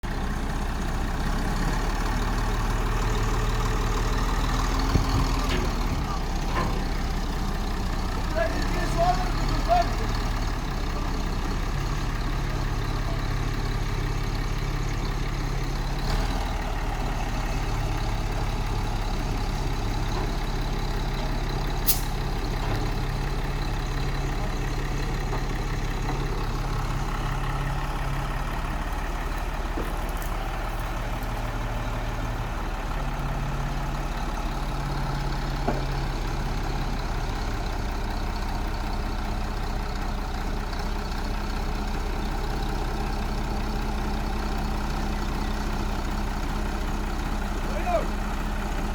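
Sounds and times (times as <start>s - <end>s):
heavy vehicle engine running: 0.0s - 48.9s.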